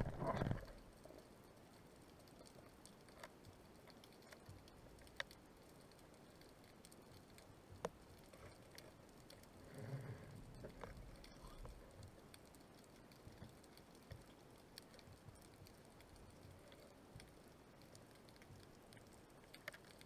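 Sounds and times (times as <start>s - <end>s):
faint sharp clicks: 0.0s - 20.0s
soft rustle: 0.0s - 20.0s
underwater ambience: 0.0s - 20.0s.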